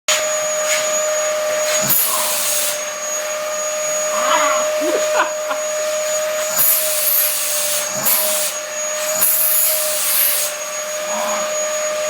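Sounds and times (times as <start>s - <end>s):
vacuum cleaner motor whine: 0.1s - 12.0s.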